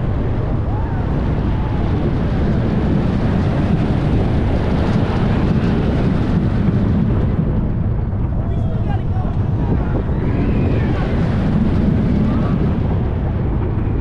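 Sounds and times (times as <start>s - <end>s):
roller coaster train rumbling: 0.0s - 14.0s
wind rushing over microphone: 0.0s - 14.0s.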